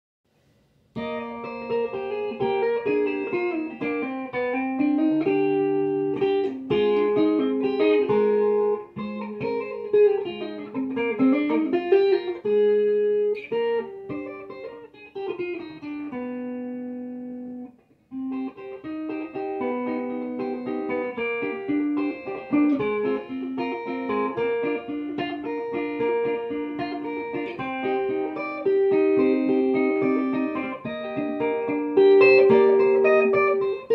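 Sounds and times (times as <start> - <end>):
fingerpicked electric guitar: 0.4 - 33.9.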